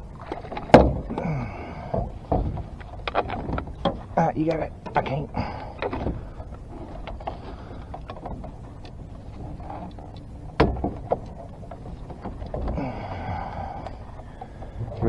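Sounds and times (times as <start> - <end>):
boat low rumble: 0.0 - 15.0.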